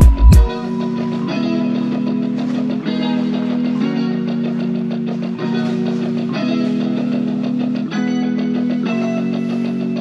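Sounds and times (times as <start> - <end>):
guitar-led background music: 0.0 - 10.0.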